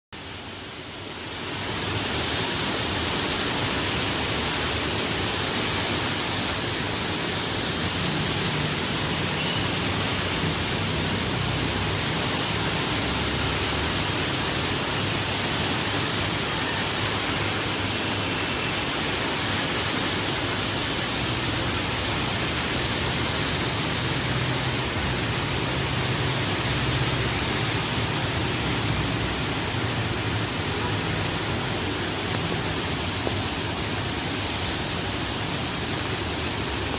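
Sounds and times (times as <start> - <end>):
heavy rain falling: 0.2 - 36.9.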